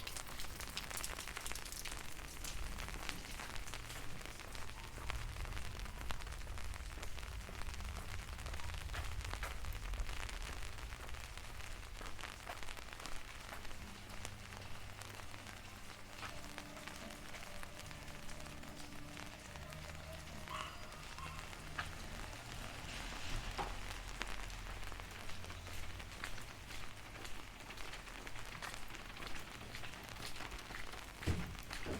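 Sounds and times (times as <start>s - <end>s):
rain pattering: 0.0s - 31.9s.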